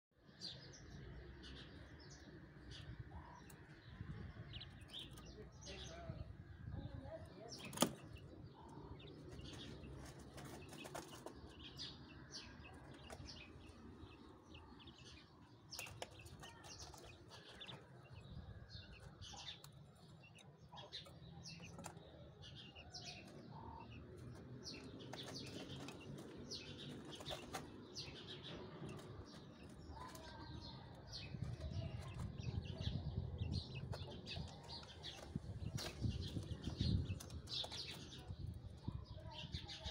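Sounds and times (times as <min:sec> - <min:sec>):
quails chirping: 0:02.6 - 0:39.9.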